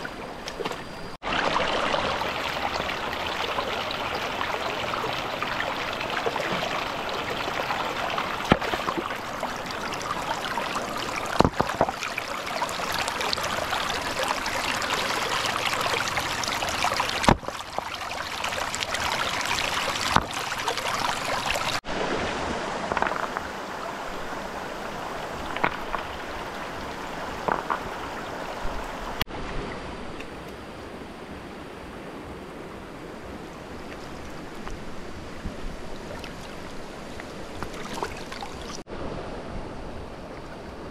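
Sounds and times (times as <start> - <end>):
water running and splashing: 0.0 - 29.2, 33.9 - 38.9.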